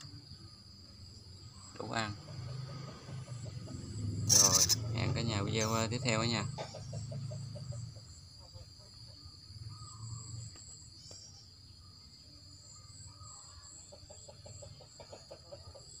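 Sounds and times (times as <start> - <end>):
high-pitched insect drone: 0.0 - 15.0
faint chicken clucking: 0.0 - 16.0.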